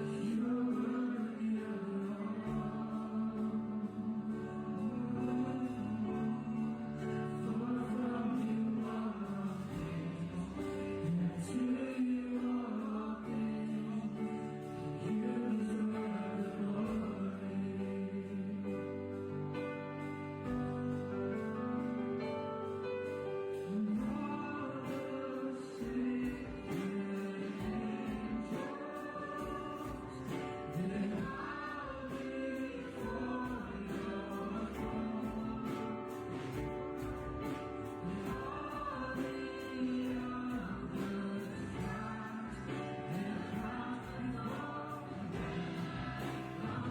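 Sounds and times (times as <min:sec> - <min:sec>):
congregation singing a hymn: 0:00.0 - 0:46.9
slow worship music with held chords: 0:00.0 - 0:46.9.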